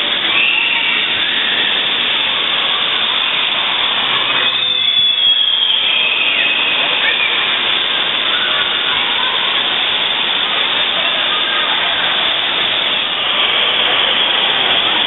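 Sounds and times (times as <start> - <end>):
running and splashing water: 0.0 - 15.0.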